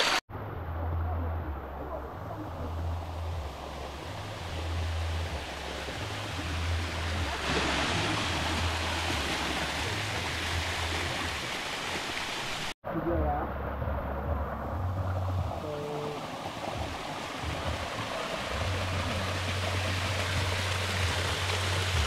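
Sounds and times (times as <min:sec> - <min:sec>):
waterfall rushing: 0:01.7 - 0:12.8, 0:13.4 - 0:22.0.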